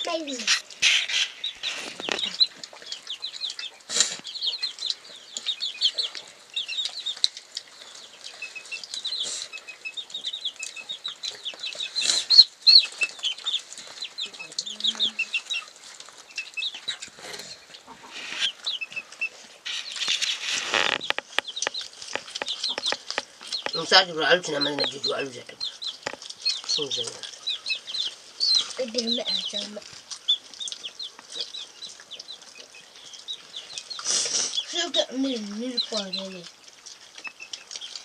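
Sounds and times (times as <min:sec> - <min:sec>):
chick peeping: 0:00.0 - 0:38.0.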